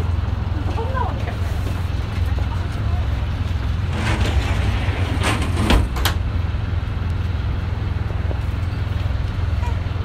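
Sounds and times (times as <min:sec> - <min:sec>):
ferry engine rumbling: 0:00.0 - 0:10.0.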